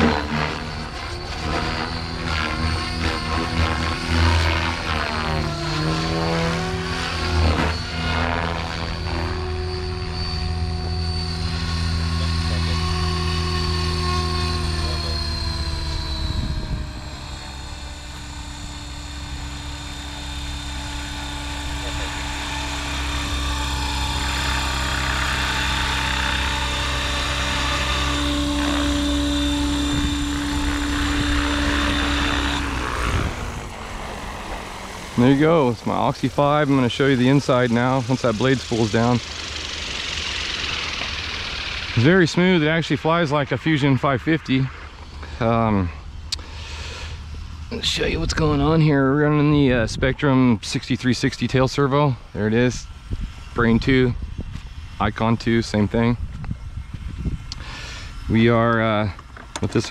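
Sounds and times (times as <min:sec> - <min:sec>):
blades spooling down: 0:00.0 - 0:54.2
high motor whine: 0:00.0 - 0:59.9
rc helicopter rotor whirring: 0:00.0 - 0:59.9.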